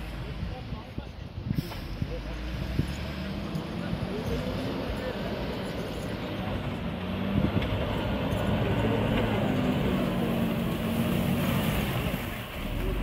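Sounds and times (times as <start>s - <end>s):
wheel loader diesel engine: 0.0s - 13.0s.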